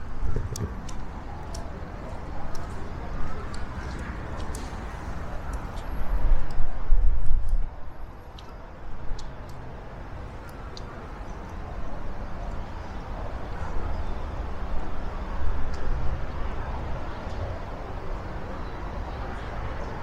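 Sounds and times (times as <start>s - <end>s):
passing traffic rumble: 0.0s - 20.0s.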